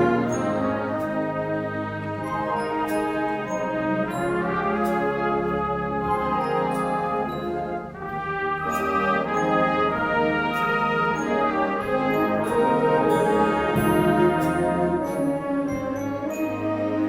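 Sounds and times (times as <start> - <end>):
wind band playing: 0.0 - 17.0.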